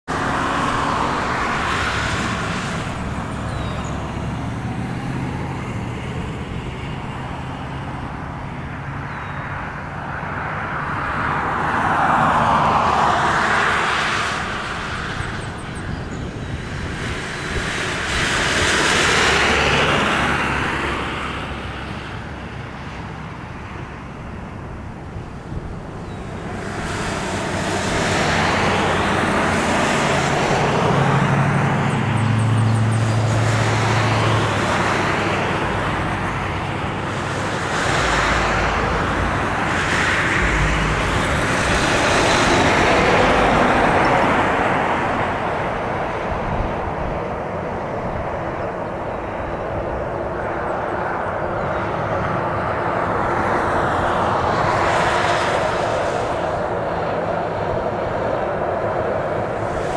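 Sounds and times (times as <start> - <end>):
distant jet airliner landing: 0.0 - 59.9.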